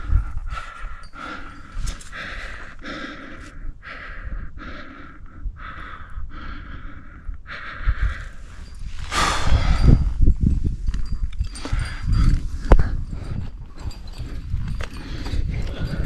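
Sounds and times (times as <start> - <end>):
person panting heavily: 0.0 - 10.4, 11.5 - 16.0.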